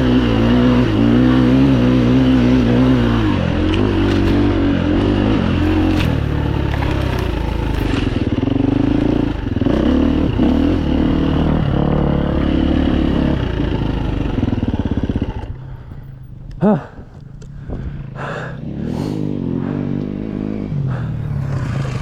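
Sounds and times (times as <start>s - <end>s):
dirt bike engine revving: 0.0s - 15.8s, 18.0s - 22.0s.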